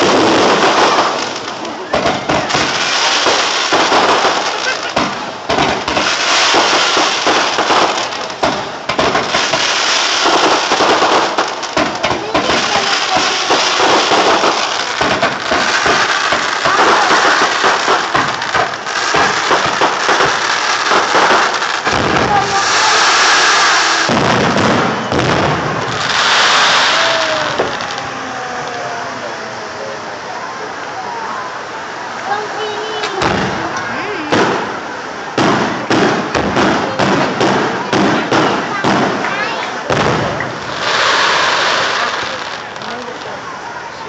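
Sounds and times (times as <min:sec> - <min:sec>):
fireworks crackling and popping: 0:00.0 - 0:44.0.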